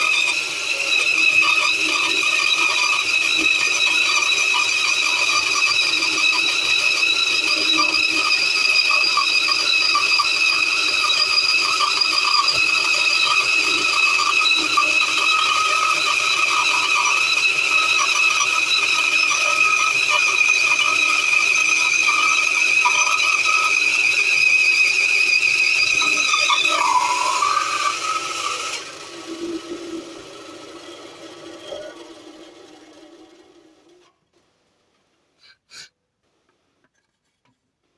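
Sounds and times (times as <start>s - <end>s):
bandsaw high-pitched whine: 0.0s - 34.0s.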